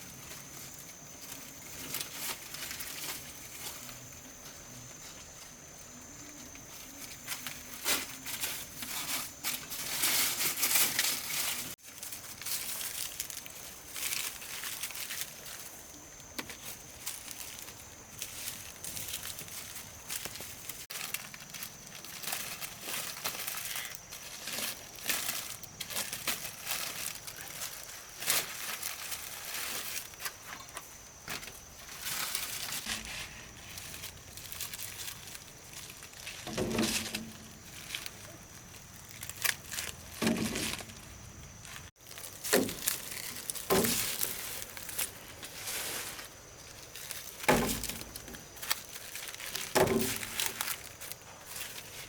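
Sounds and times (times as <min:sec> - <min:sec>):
dry crackling and rustling: 0:00.0 - 0:52.0.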